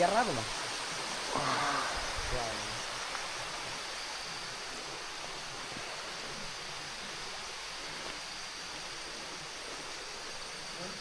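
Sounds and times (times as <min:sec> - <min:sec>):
faint high insect drone: 0:00.0 - 0:11.0
rainforest ambience: 0:00.0 - 0:11.0.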